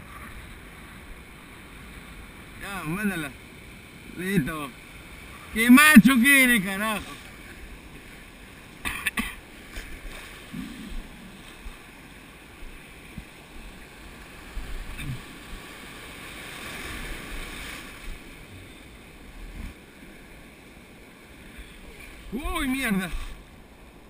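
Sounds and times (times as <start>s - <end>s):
ocean surf churning: 0.0s - 24.0s.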